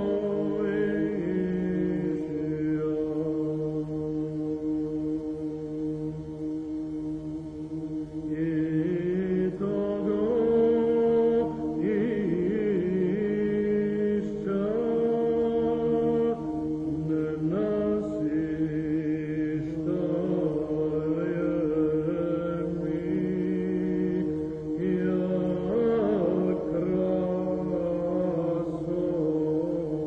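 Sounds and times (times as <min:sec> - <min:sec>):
held drone: 0:00.0 - 0:30.0
slow chanted singing: 0:00.0 - 0:30.0.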